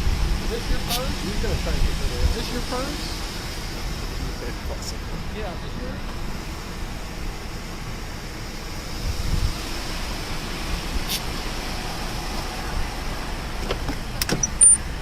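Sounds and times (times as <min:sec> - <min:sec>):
roadside vehicle rumble: 0:00.0 - 0:15.0.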